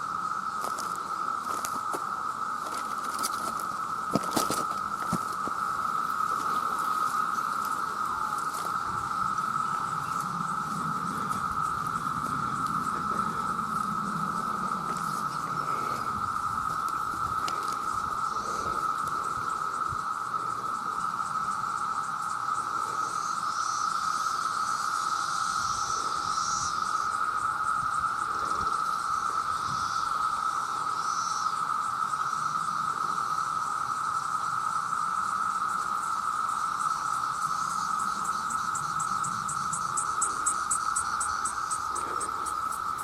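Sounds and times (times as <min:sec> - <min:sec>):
cicadas droning: 0:00.0 - 0:43.0.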